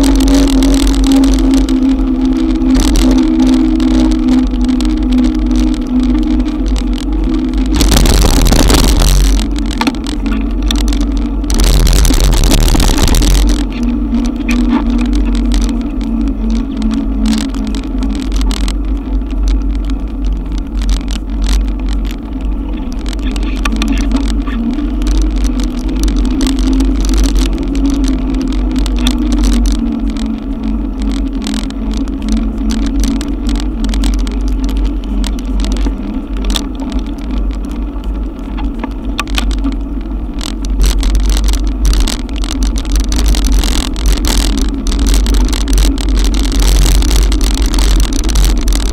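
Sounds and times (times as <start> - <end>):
raindrops ticking on camera: 0.0 - 48.9
steady motor hum: 0.0 - 48.9
wind rumbling on microphone: 0.0 - 48.9.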